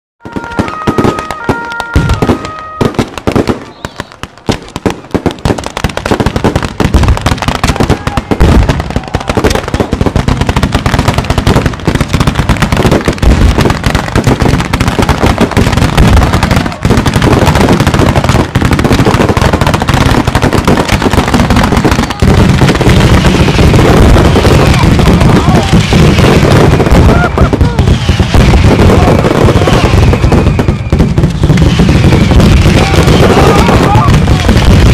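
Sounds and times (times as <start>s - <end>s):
fireworks crackling and popping: 0.2s - 34.9s.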